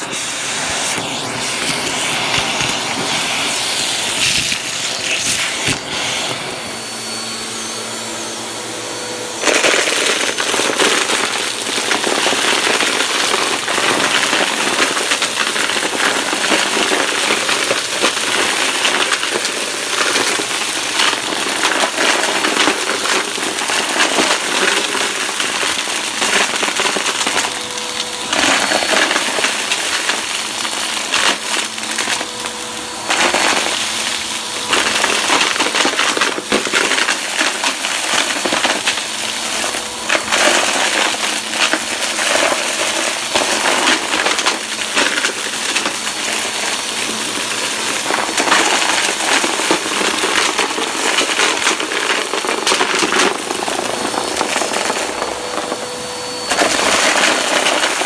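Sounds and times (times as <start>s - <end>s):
grit rattling through vacuum: 0.0s - 58.0s
vacuum cleaner running: 0.0s - 58.0s.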